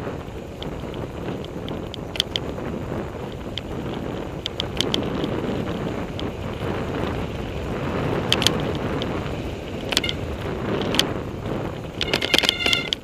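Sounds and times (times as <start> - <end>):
bike clicking and rattling: 0.0 - 13.0
bike tyres rumbling: 0.0 - 13.0
wind buffeting microphone: 0.0 - 13.0.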